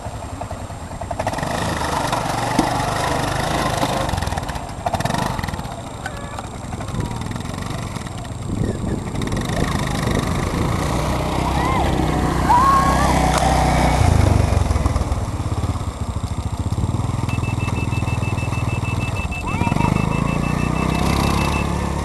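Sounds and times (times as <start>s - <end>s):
quad bike engine driving off: 0.0s - 22.0s.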